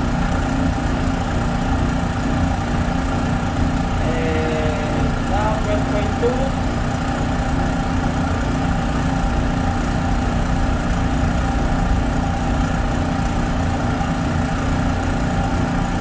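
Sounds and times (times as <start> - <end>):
pump humming: 0.0 - 16.0.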